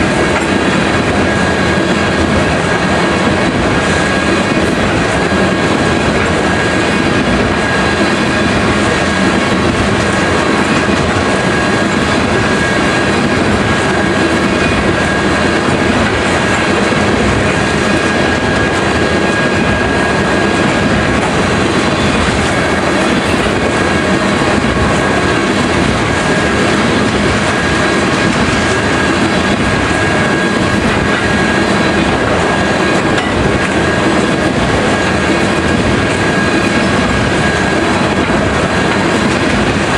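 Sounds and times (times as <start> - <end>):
high whine: 0.0 - 39.9
train wheels rumbling on rails: 0.0 - 39.9.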